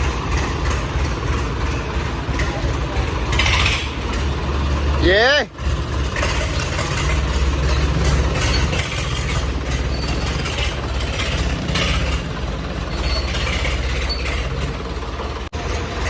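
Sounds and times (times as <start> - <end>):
tractor diesel engine rumbling: 0.0 - 16.0.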